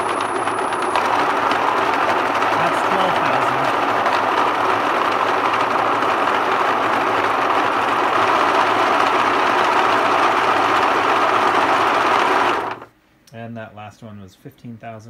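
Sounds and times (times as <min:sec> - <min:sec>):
electric motor and gearbox whirring: 0:00.0 - 0:12.9.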